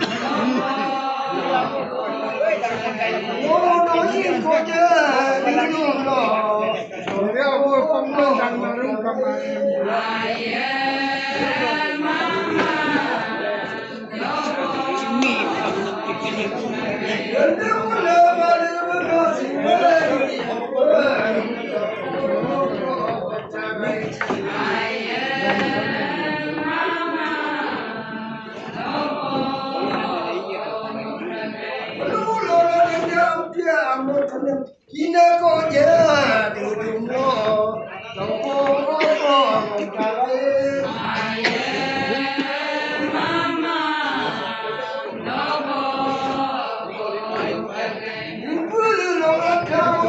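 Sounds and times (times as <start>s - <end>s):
women singing a chant together: 0.0s - 50.0s.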